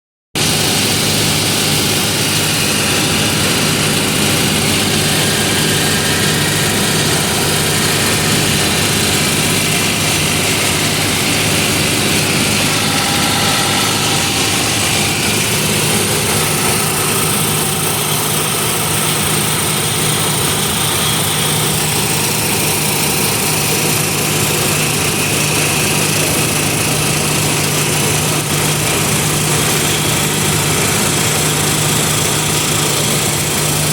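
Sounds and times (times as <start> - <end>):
motor engine running: 0.4 - 33.9.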